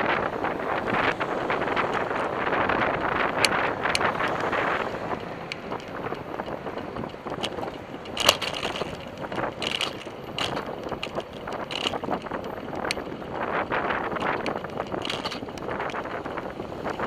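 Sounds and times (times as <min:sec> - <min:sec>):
bicycle rattling clicks: 0:00.0 - 0:17.0
wind rushing over microphone: 0:00.0 - 0:17.0.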